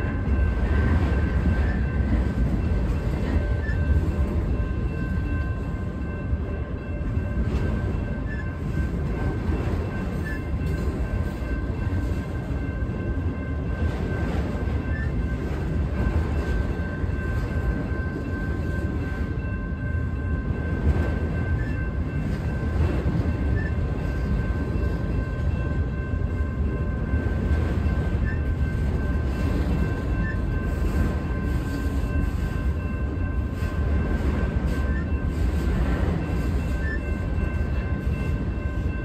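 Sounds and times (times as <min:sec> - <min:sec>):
high ringing tones: 0:00.0 - 0:39.0
train wheels rumbling on rail: 0:00.0 - 0:39.0.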